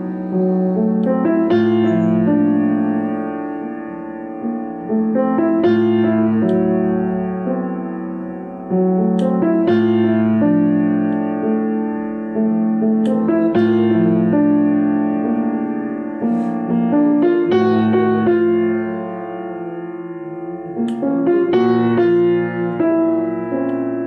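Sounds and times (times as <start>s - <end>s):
slow jazz piano: 0.0s - 24.0s.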